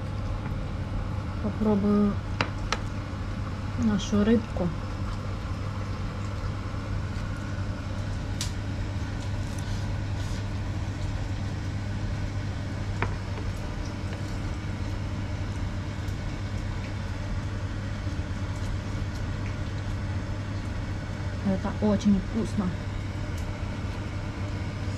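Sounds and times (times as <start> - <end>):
low mechanical hum: 0.0 - 24.9.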